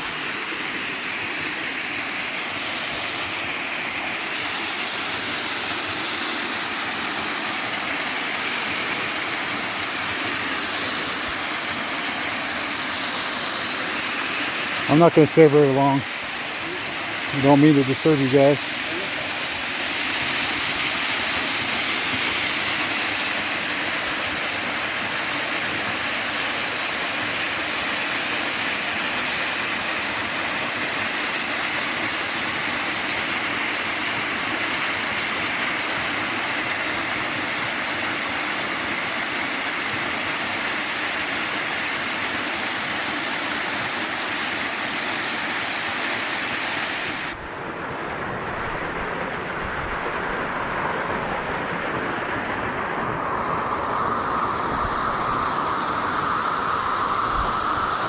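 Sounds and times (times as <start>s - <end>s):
waterfall pouring into a pool: 0.0s - 47.4s, 52.7s - 58.0s.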